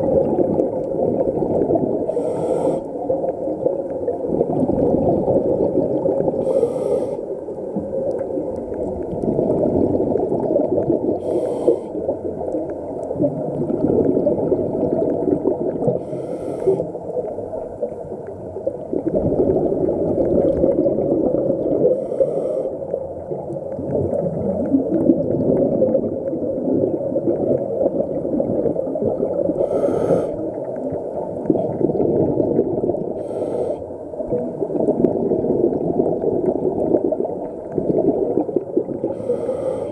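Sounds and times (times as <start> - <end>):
gurgling exhaled bubbles: 0.0 - 39.9.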